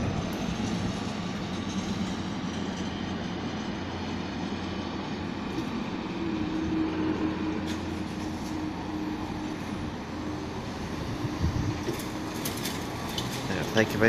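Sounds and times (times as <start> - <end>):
freight train rail rumble: 0.0 - 14.0.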